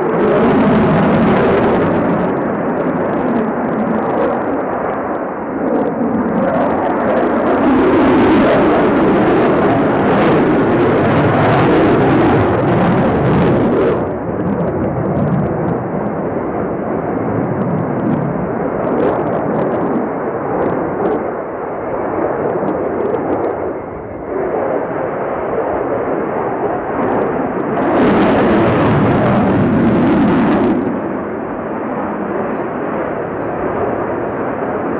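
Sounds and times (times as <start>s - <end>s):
fighter jet engines: 0.0s - 34.9s.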